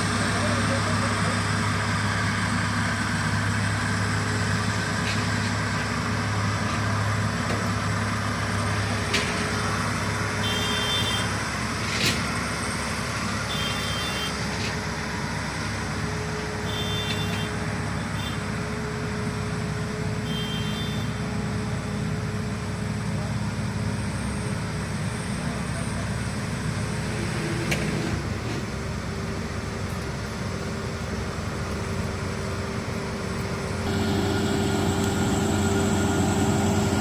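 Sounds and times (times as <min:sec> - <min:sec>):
combine harvester engine running: 0:00.0 - 0:37.0.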